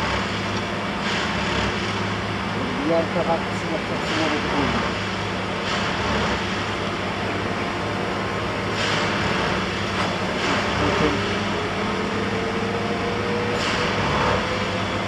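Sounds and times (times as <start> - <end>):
diesel machine engines running: 0.0 - 15.0.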